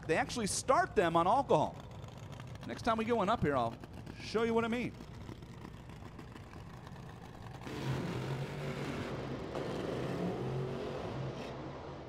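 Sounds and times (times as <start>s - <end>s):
dragster engine revving: 0.1s - 11.6s.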